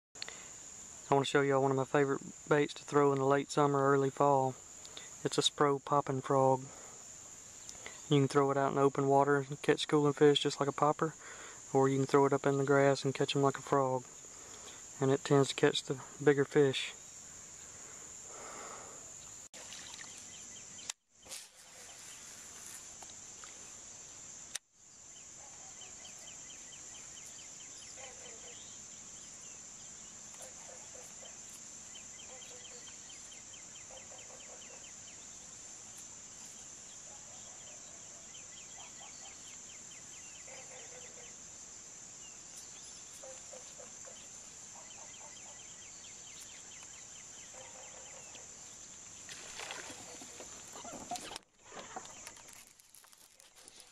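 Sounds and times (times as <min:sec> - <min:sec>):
high-pitched insect chorus: 0:00.2 - 0:53.9.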